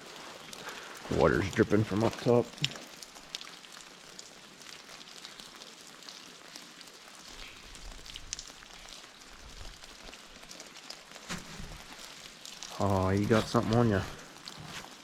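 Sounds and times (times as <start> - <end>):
rain pattering: 0.0 - 15.0
water dripping: 0.0 - 15.0.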